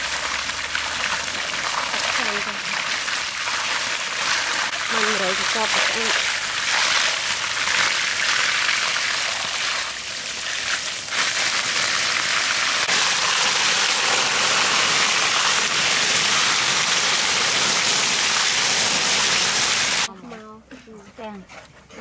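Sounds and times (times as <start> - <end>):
hose water splashing: 0.0 - 20.1.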